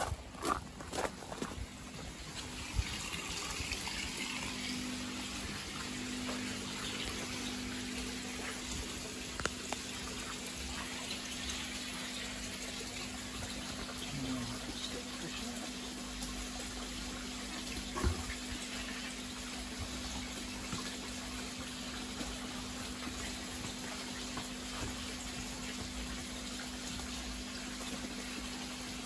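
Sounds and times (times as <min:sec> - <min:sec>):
water running: 0:00.0 - 0:29.0.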